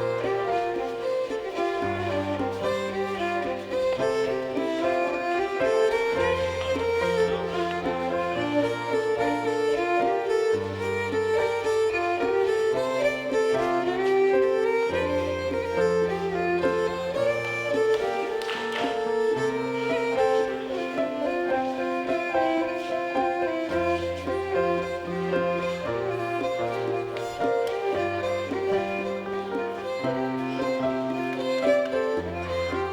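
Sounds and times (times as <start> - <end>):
fiddle melody: 0.0 - 32.9.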